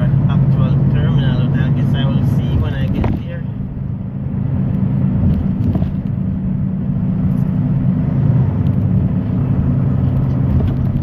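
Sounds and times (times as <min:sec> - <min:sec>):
diesel truck engine drone: 0:00.0 - 0:11.0
road noise: 0:00.0 - 0:11.0.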